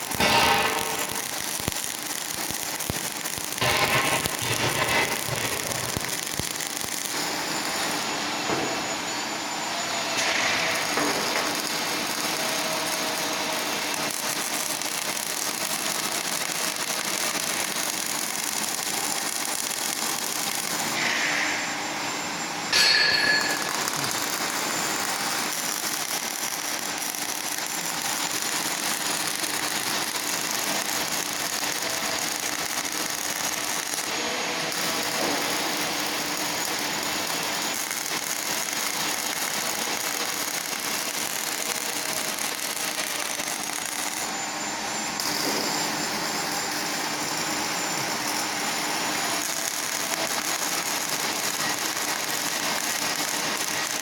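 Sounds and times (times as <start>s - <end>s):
welding arc crackling: 0.0s - 8.9s, 10.2s - 21.4s, 22.7s - 44.3s, 45.0s - 45.5s, 47.9s - 54.0s.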